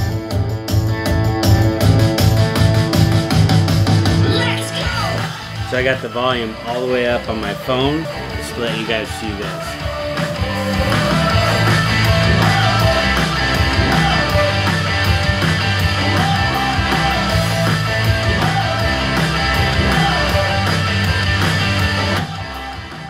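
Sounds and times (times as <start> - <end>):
bass-heavy music through speakers: 0.0 - 23.0.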